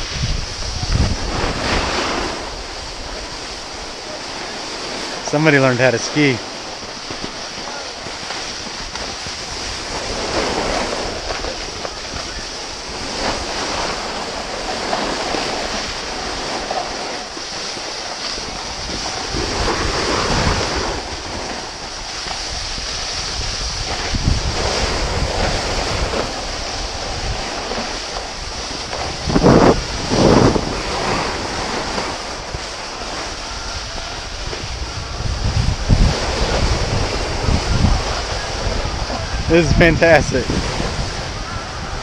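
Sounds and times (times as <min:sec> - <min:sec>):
skis scraping snow: 0:00.0 - 0:42.0
wind buffeting microphone: 0:00.0 - 0:42.0.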